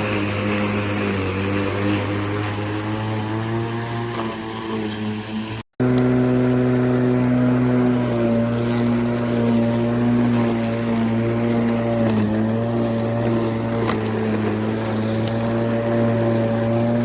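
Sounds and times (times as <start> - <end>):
lawn mower humming: 0.0 - 17.0.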